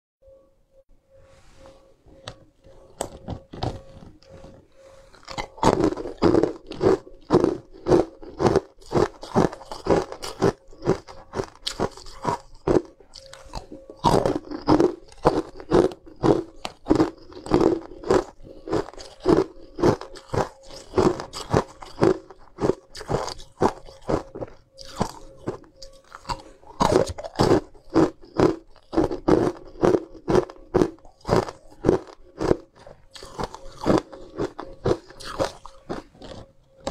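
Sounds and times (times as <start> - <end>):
ice crunching between teeth: 2.7 - 36.9.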